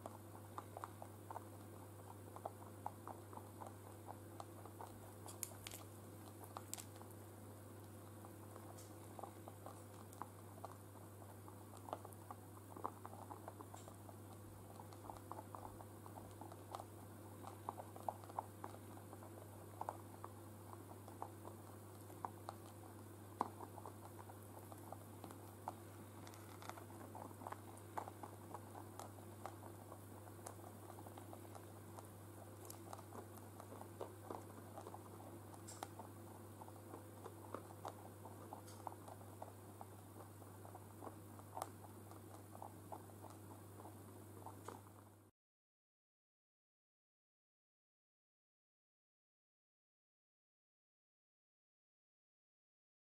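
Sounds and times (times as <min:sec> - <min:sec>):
rabbits crunching hay: 0:00.0 - 0:45.2
steady low hum: 0:00.0 - 0:45.3.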